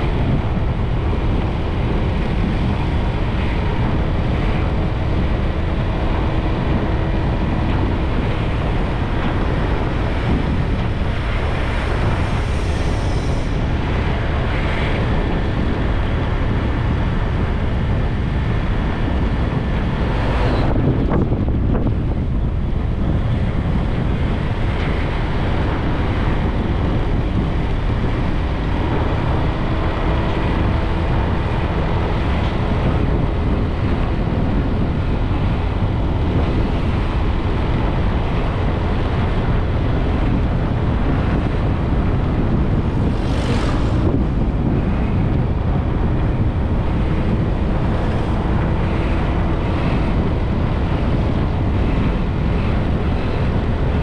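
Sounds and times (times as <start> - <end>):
low motorbike engine hum: 0.0 - 54.0
wind buffeting microphone: 0.0 - 54.0.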